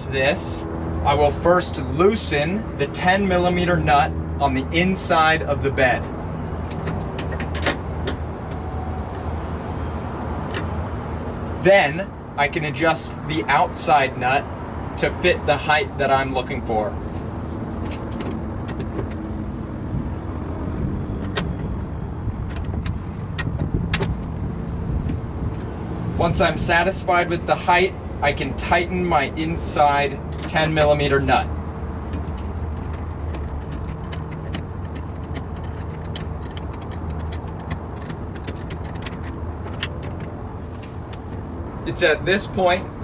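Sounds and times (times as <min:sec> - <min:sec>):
low rumble of vehicle noise: 0:00.0 - 0:43.0.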